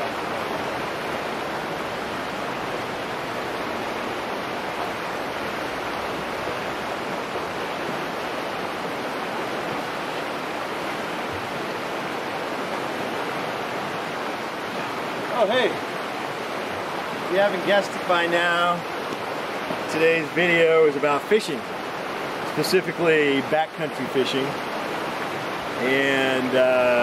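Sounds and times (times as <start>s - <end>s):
creek water rushing over rocks: 0.0s - 27.0s.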